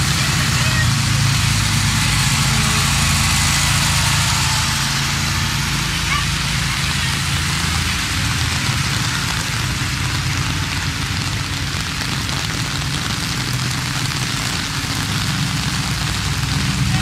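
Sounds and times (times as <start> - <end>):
steady rain hiss: 0.0 - 17.0
trucks rumbling on wet street: 0.0 - 17.0.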